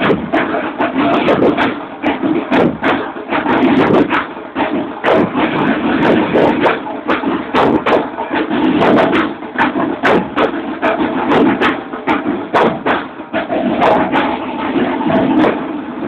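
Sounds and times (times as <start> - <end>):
marching drum line: 0.0 - 16.0.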